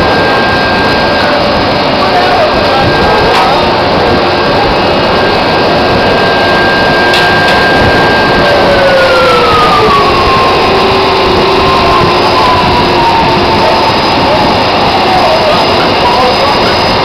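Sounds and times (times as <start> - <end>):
drilling rig machinery din: 0.0 - 17.0
whine gliding down in pitch: 0.0 - 17.0.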